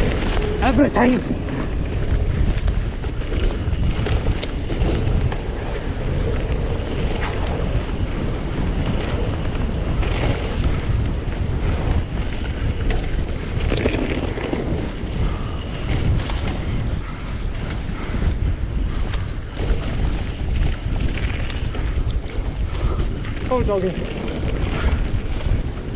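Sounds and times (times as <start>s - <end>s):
bike knocks and rattles: 0.0s - 25.9s
bike tyres on rough trail: 0.0s - 25.9s
wind buffeting microphone: 0.0s - 25.9s.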